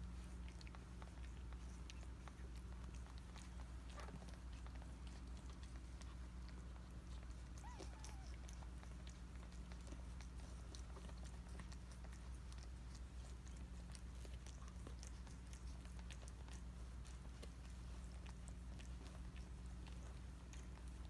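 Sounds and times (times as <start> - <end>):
cat licking and chewing: 0.0 - 21.0
steady low hum: 0.0 - 21.0.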